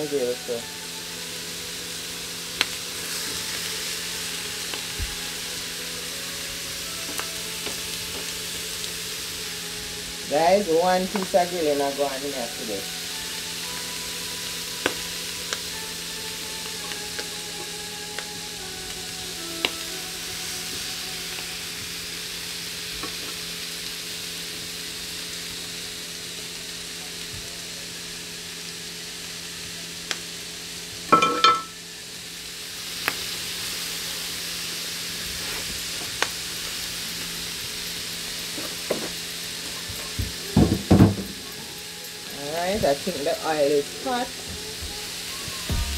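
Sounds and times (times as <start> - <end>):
food sizzling on griddle: 0.0 - 45.9.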